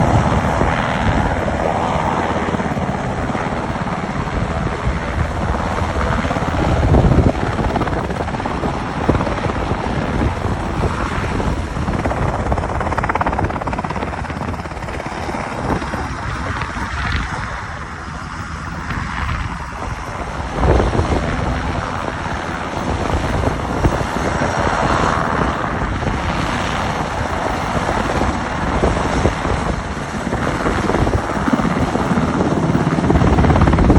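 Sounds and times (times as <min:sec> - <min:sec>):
helicopter rotor and engines: 0:00.0 - 0:33.9.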